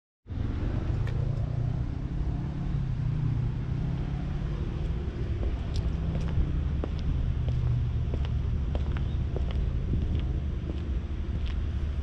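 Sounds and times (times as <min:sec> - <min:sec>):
low outdoor rumble: 0:00.3 - 0:12.0.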